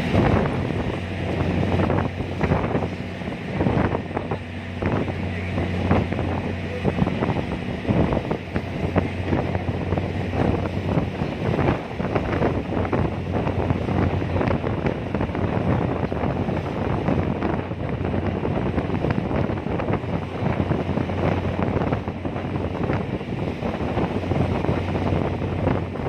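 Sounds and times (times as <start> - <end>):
ferry engine droning: 0.0 - 26.0
wind buffeting microphone: 0.0 - 26.0.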